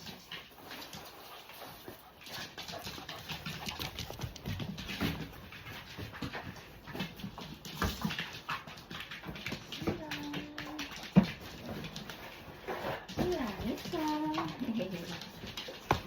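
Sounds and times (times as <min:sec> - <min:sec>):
dog panting: 0:00.0 - 0:16.0
quick rustles and clicks: 0:00.0 - 0:16.0.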